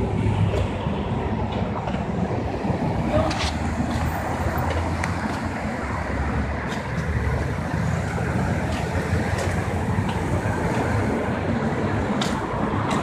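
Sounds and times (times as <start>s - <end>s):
low rumble of road traffic: 0.0s - 13.0s.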